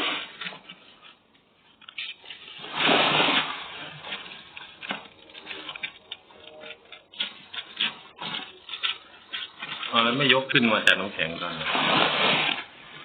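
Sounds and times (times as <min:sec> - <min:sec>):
crackles clinks and knocks: 0:00.0 - 0:13.0
ice and plastic packs rustling: 0:00.0 - 0:13.0.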